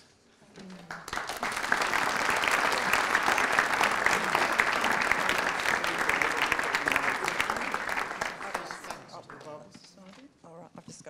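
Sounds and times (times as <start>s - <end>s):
audience applauding: 0.8s - 9.7s.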